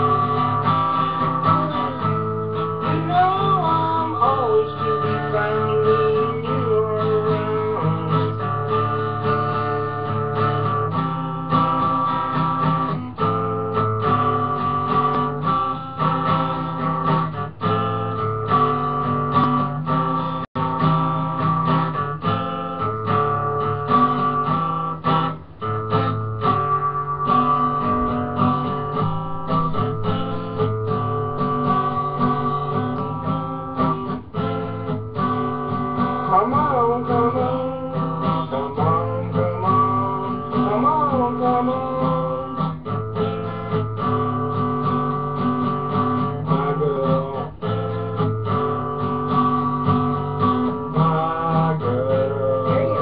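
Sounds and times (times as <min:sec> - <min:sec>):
acoustic guitar strumming chords: 0:00.0 - 0:53.0.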